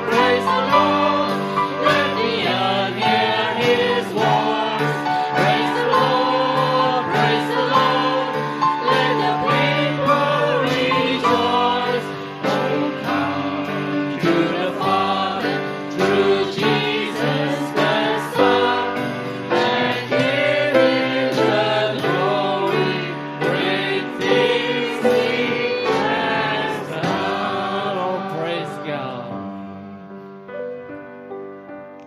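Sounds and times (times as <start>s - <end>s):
drums with steady beat: 0.0s - 27.9s
voices singing together: 0.0s - 29.4s
piano: 0.0s - 32.0s.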